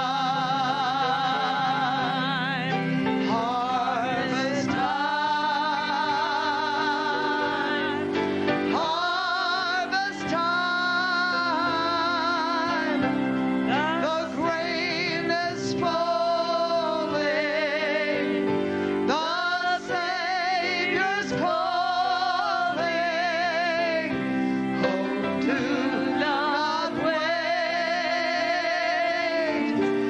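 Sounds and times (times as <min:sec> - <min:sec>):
held instrumental chords: 0:00.0 - 0:30.0
person singing with vibrato: 0:00.0 - 0:30.0.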